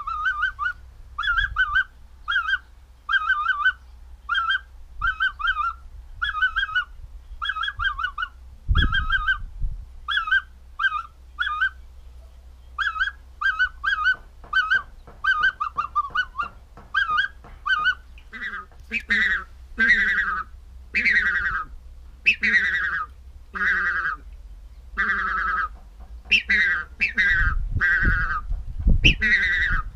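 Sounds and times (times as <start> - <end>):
finger whistling goose calls: 0.0 - 9.4, 10.1 - 11.8, 12.8 - 24.3, 25.0 - 29.9.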